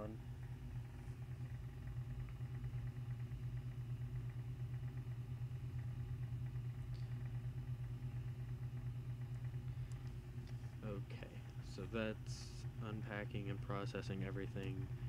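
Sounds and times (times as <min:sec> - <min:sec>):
low hum with flutter: 0:00.0 - 0:15.0.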